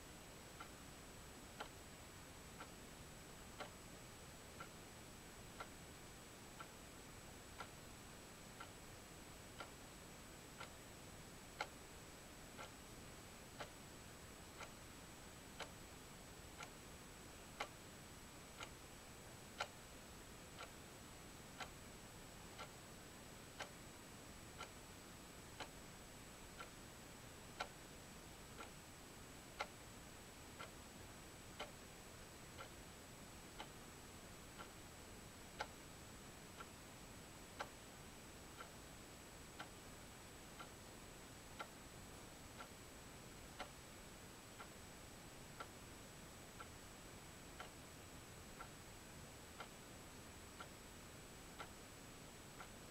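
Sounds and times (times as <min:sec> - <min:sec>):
low hiss: 0:00.0 - 0:52.9
clock ticking: 0:00.3 - 0:34.9, 0:35.5 - 0:52.9.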